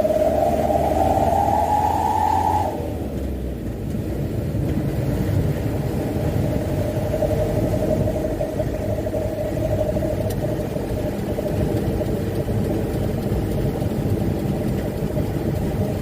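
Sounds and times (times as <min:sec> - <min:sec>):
truck diesel engine whine: 0:00.0 - 0:16.0.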